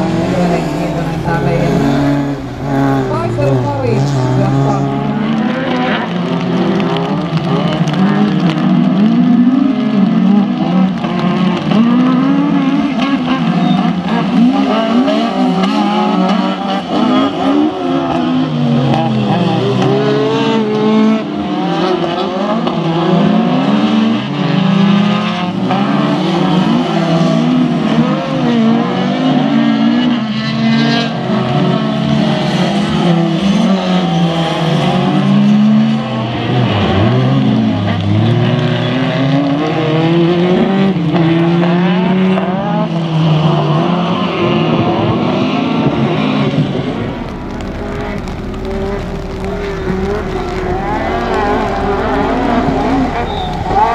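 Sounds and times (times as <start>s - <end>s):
race car engines revving: 0.0s - 53.9s.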